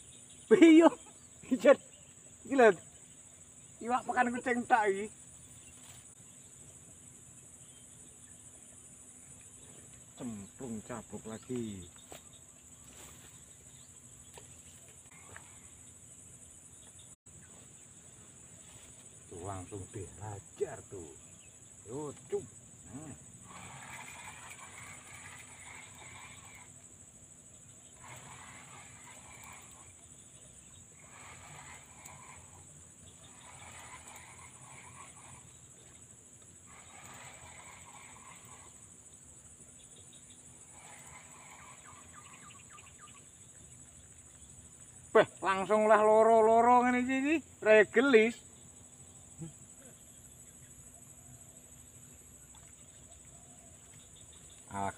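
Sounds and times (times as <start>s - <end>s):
crickets chirping: 0.0s - 54.9s
frogs calling: 0.0s - 54.9s
high insect buzz: 0.0s - 54.9s.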